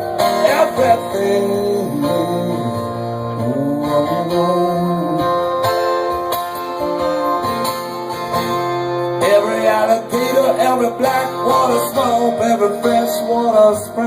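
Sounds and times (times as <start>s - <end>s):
acoustic guitars strummed: 0.0s - 14.0s
live band playing instrumental: 0.0s - 14.0s.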